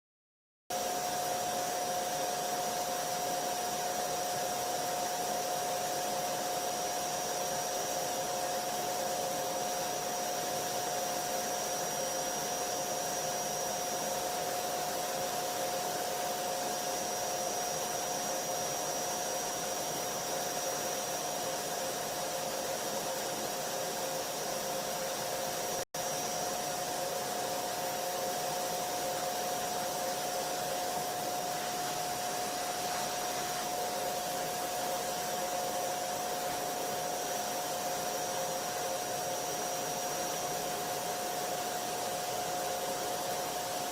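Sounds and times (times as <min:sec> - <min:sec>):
vacuum cleaner motor running: 0:00.8 - 0:43.9.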